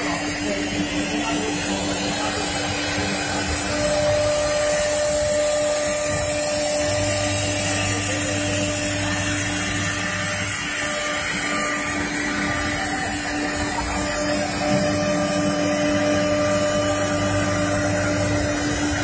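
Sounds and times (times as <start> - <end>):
low hum: 0.0 - 19.0
machine tone: 0.0 - 19.0
machine whine with high hiss: 0.0 - 19.0.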